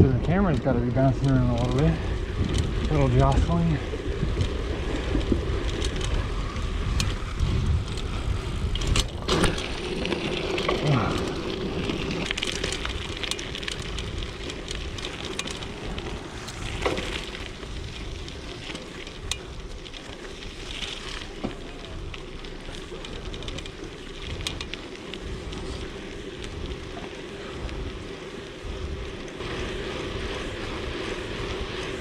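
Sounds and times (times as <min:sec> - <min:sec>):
bike knocking and rattling: 0:00.0 - 0:32.0
rumble of bike tyres: 0:00.0 - 0:32.0
wind: 0:00.0 - 0:32.0.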